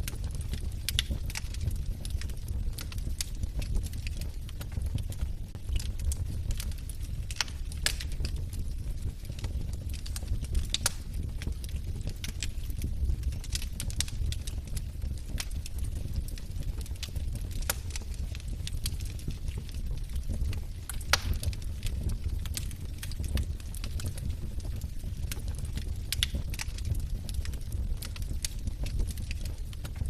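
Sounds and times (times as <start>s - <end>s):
fire low rumble: 0.0s - 30.0s
logs crackling and popping: 0.0s - 30.0s.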